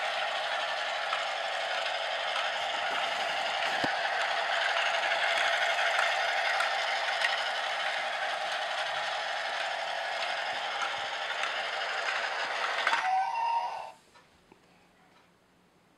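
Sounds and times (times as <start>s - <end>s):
toy train whirring rattle: 0.0s - 14.0s.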